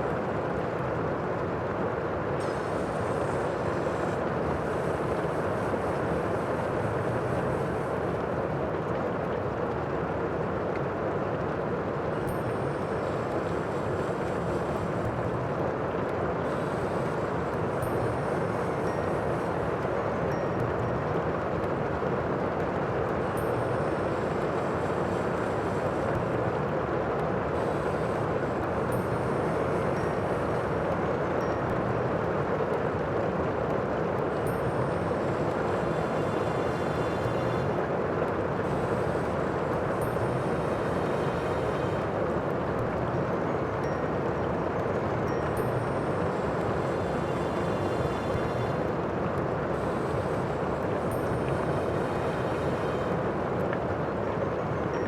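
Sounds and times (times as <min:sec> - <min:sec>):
rush of water: 0:00.0 - 0:55.0
wind: 0:00.0 - 0:55.0.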